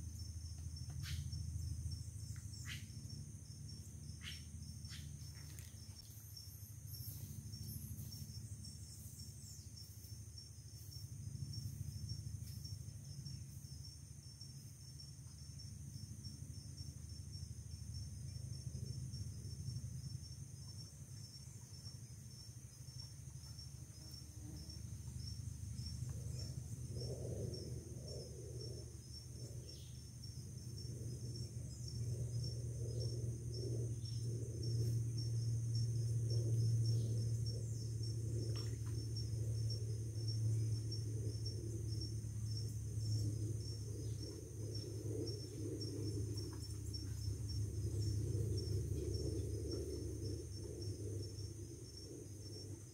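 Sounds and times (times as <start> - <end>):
insects trilling: 0.0 - 52.9
low steady rumble: 0.0 - 52.9.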